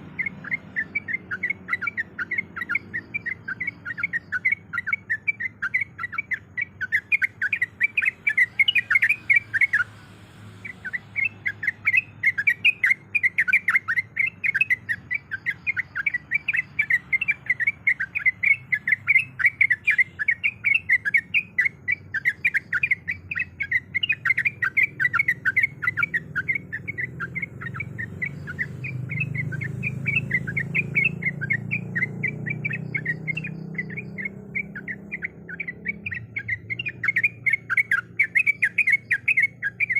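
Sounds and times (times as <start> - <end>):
bird chattering sharp notes: 0.0 - 39.9.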